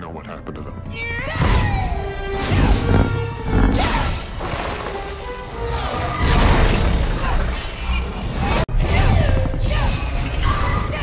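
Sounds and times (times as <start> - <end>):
orchestral film score: 0.0 - 11.0.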